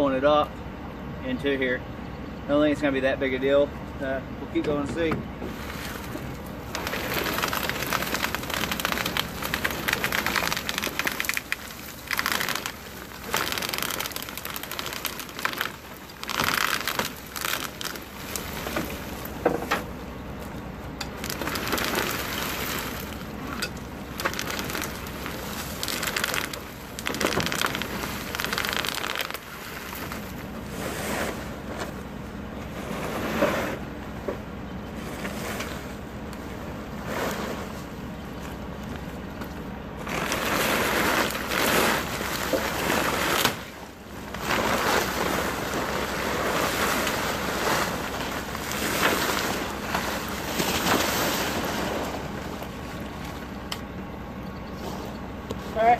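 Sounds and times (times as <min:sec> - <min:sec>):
mulch clumps spilling to ground: 0:05.5 - 0:33.5, 0:34.9 - 0:54.0
wood chips sliding and crackling: 0:05.5 - 0:34.1, 0:34.9 - 0:54.1.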